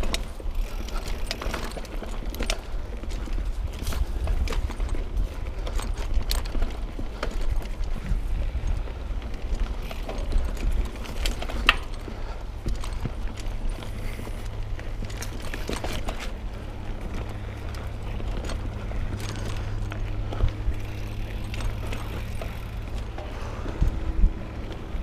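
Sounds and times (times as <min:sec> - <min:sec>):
bike clicks knocks and rattles: 0:00.0 - 0:25.0
bike rolling over rough trail: 0:00.0 - 0:25.0.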